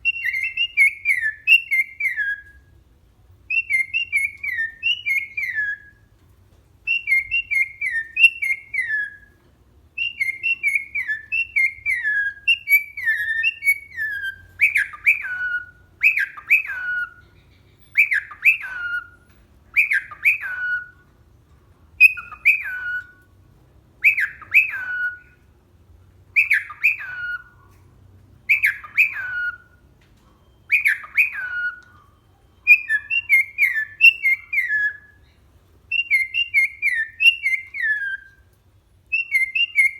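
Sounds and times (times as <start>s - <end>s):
cockatiel whistling a tune: 0.0s - 2.7s, 3.5s - 6.1s, 6.8s - 21.1s, 22.0s - 23.3s, 24.0s - 25.5s, 26.3s - 27.7s, 28.4s - 38.5s, 39.1s - 39.9s.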